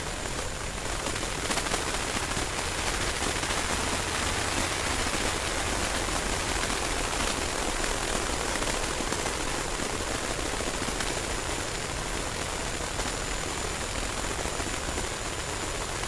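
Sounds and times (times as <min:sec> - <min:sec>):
harsh noise hiss and crackle: 0:00.0 - 0:16.0.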